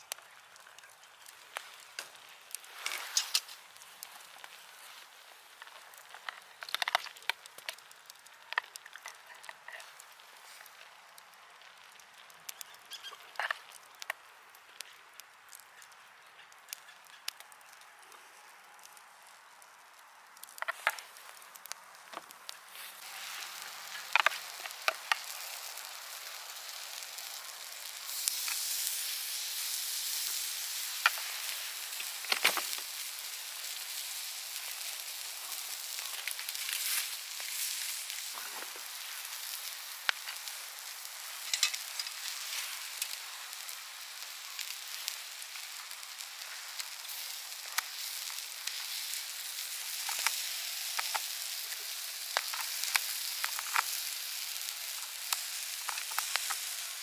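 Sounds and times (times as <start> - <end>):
food sizzling: 0.0 - 57.0.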